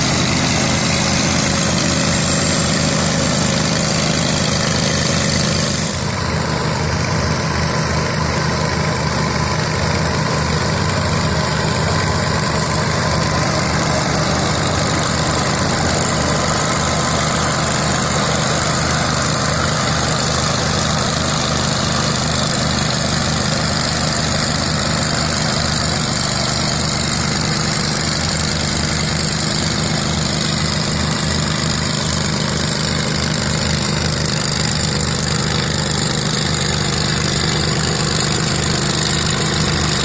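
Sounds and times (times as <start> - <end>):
diesel tractor engine running: 0.0 - 40.0
mower engine cutting grass: 0.0 - 40.0.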